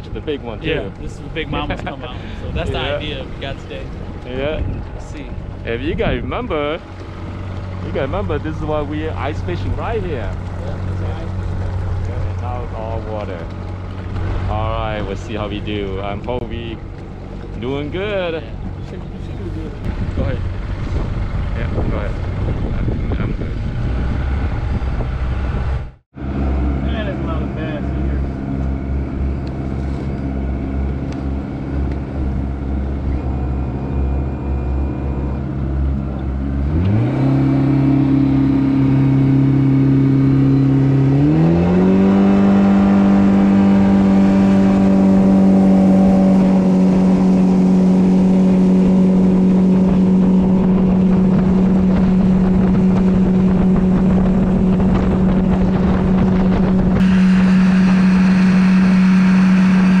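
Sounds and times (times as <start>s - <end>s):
outboard motor running: 0.0s - 60.0s
wind: 0.0s - 60.0s.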